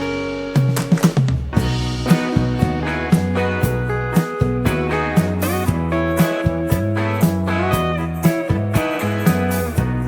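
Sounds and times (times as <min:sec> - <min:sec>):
low bass notes: 0:00.0 - 0:10.0
plucked guitar music: 0:00.0 - 0:10.0.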